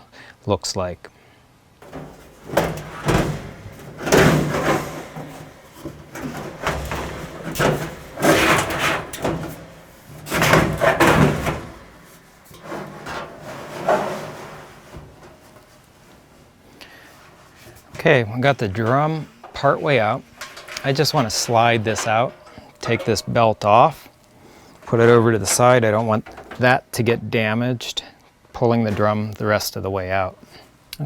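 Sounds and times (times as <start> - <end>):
dryer drum scraping and knocking: 1.8 - 27.1, 28.6 - 29.5.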